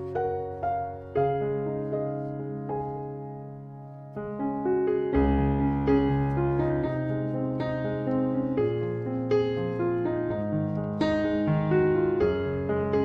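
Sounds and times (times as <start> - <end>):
gentle solo piano piece: 0.0 - 13.0.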